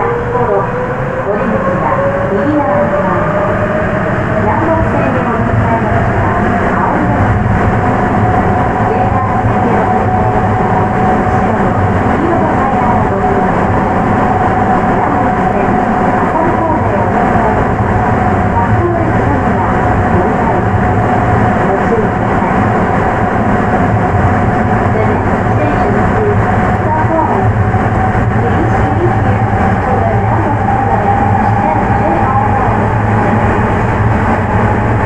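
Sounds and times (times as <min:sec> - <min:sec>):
constant tone: 0:00.0 - 0:35.0
subway train running: 0:00.0 - 0:35.0.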